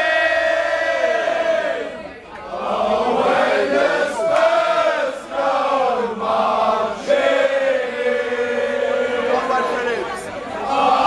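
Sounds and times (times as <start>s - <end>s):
crowd chanting in unison: 0.0s - 11.0s.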